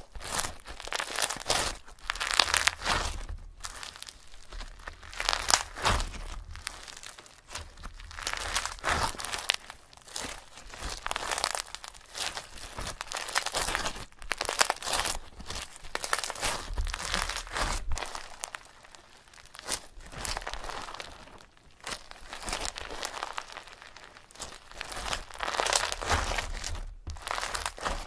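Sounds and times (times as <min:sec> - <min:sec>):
crinkling and crunching by hand: 0:00.0 - 0:28.0.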